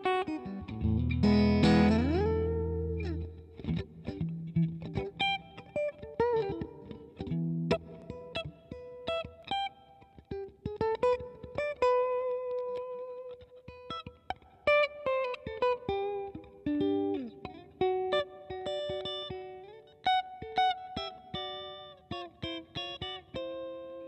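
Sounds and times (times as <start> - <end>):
electric guitar melody: 0.0 - 24.0.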